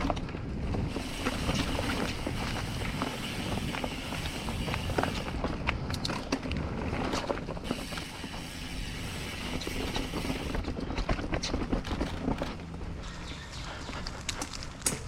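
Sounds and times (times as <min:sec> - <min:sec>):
bike rattling and knocking: 0:00.0 - 0:15.0
bike tyres rolling on dirt: 0:00.0 - 0:15.0.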